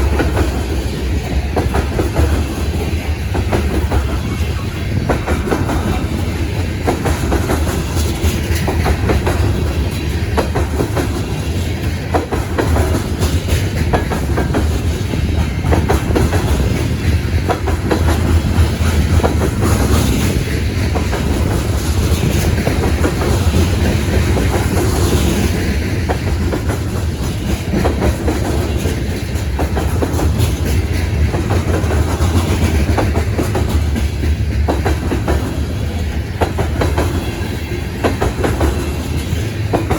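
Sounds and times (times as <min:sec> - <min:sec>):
train rumble: 0:00.0 - 0:39.9
train wheels clicking over rail joints: 0:00.0 - 0:39.9.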